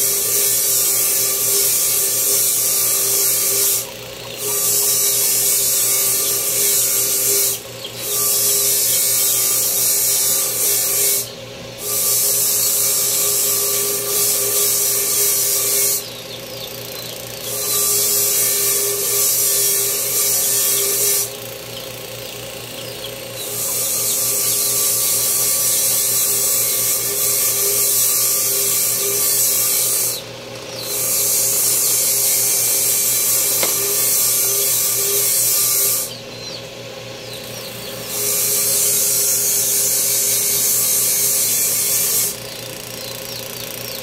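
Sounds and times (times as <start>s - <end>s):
power tool motor running: 0.0s - 44.0s.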